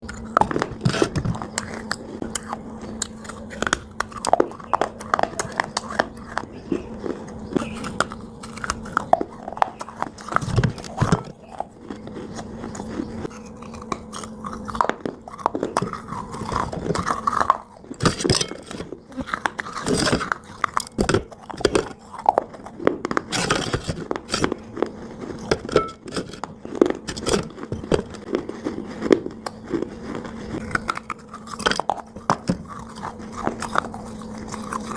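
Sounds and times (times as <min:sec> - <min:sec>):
dry clay being chewed: 0:00.0 - 0:34.9.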